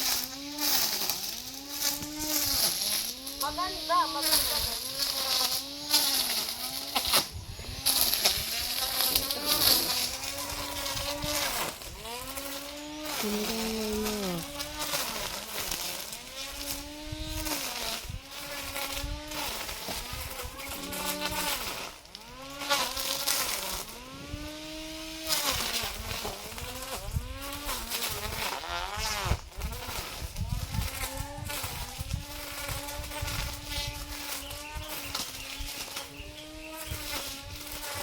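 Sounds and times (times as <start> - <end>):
lawn mower engine cutting grass: 0.0 - 38.0.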